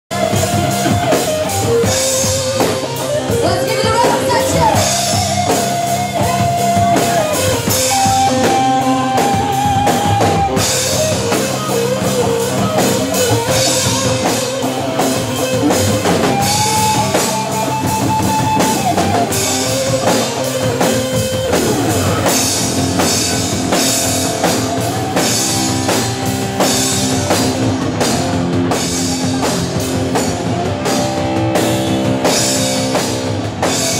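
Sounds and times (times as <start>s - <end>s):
rock music with drums and guitars: 0.1s - 33.9s.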